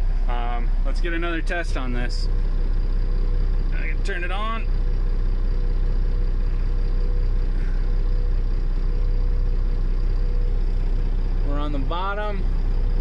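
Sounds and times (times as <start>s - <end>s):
fire engine idling: 0.0s - 13.0s.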